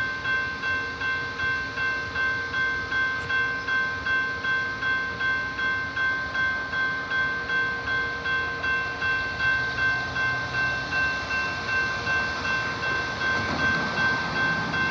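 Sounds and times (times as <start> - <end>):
railroad crossing bell ringing: 0.0 - 14.9.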